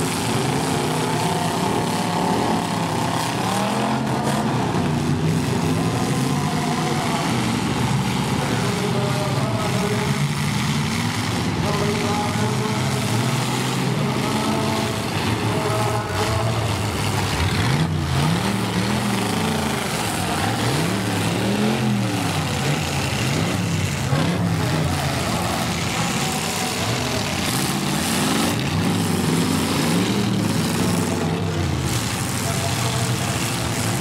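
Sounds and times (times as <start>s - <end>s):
car engines revving: 0.0s - 34.0s
cars ramming one another: 0.0s - 34.0s.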